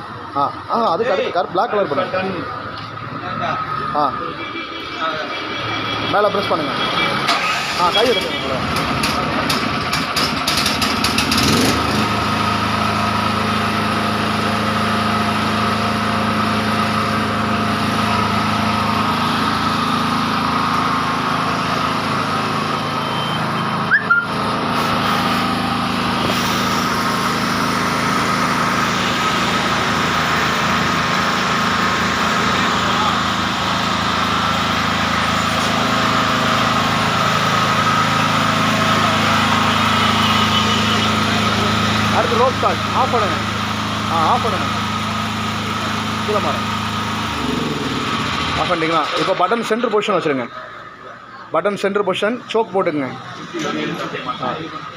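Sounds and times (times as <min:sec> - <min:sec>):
generator engine running: 0:00.0 - 0:54.9.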